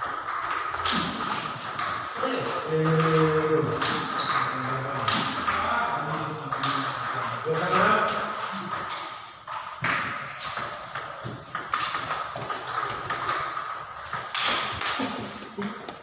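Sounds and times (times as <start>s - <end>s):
ping pong ball ticking: 0.0s - 15.0s.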